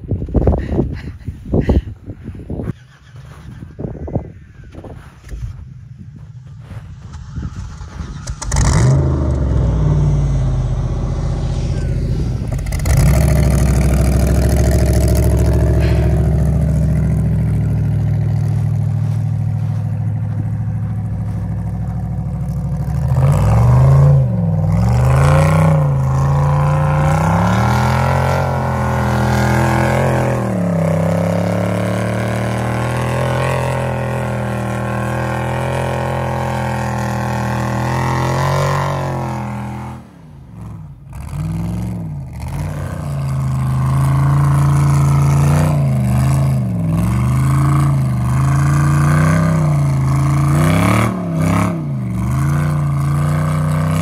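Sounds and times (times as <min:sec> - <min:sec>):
race buggy engine revving: 0:06.4 - 0:54.0.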